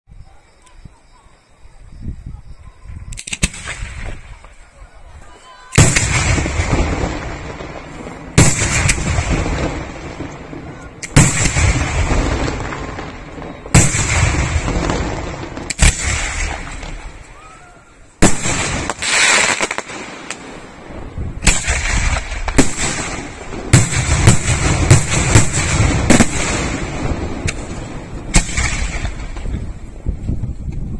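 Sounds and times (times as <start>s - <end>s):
fireworks booming: 3.1s - 4.9s, 5.6s - 30.9s.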